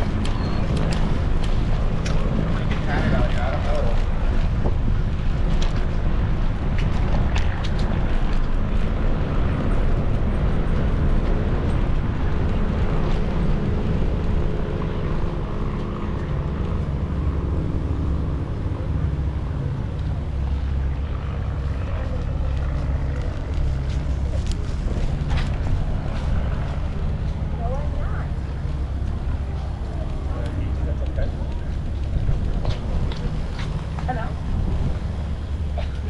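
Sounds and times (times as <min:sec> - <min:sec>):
bike rolling noise: 0:00.0 - 0:36.0
wind buffeting microphone: 0:00.0 - 0:36.0.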